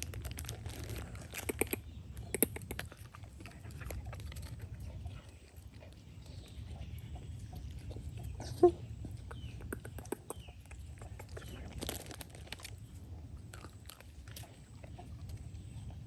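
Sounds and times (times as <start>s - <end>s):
animal eating crunching: 0.0s - 16.0s.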